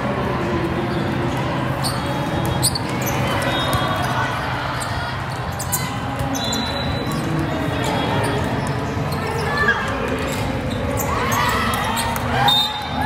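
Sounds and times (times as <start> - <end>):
murmur of crowd in hall: 0.0 - 13.0
shoes squeaking on court: 1.8 - 13.0.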